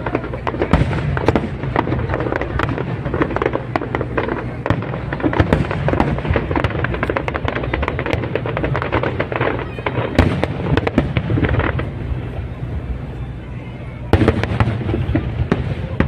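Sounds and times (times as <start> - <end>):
fireworks cracking and popping: 0.0 - 16.0.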